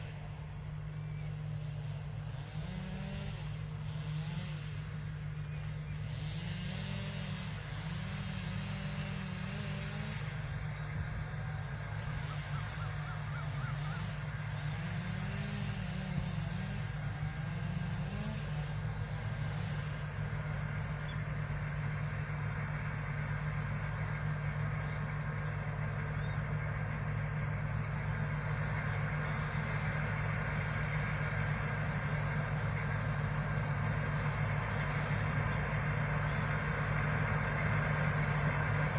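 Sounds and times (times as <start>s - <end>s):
combine harvester engine hum: 0.0s - 38.9s.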